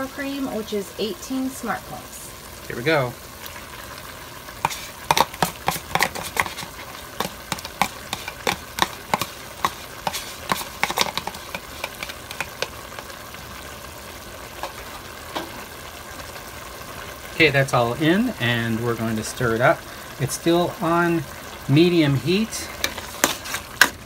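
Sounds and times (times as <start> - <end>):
faint pot sizzle: 0.0 - 24.0.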